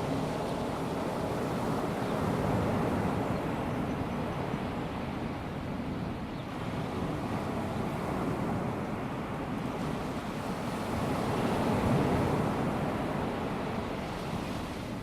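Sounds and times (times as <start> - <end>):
small waves washing on beach: 0.0 - 15.0.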